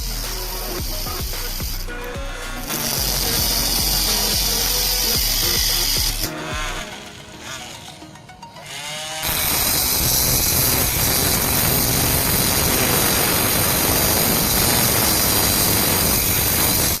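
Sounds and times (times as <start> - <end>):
angle grinder motor running: 0.0 - 8.0, 8.6 - 17.0.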